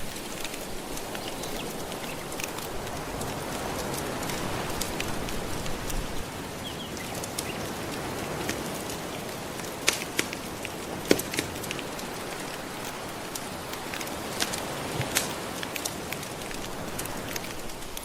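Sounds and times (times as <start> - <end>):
ocean waves washing on shore: 0.0 - 18.0
wood fire crackling: 0.0 - 18.0.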